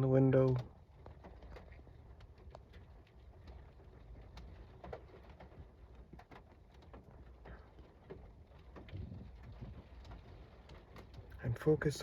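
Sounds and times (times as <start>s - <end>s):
low steady rumble: 0.0s - 12.0s
raindrops tapping on window: 0.0s - 12.0s.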